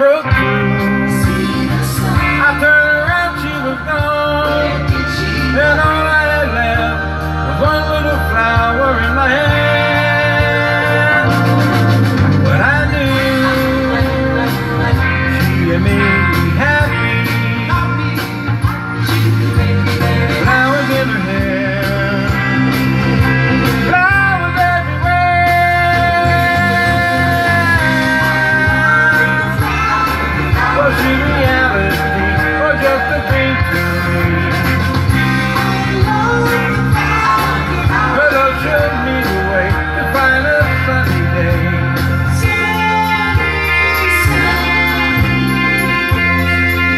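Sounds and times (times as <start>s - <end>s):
guitar: 0.0s - 46.9s
instrumental backing music: 0.0s - 46.9s
man singing: 0.0s - 46.9s
steady drum beat: 0.3s - 46.9s.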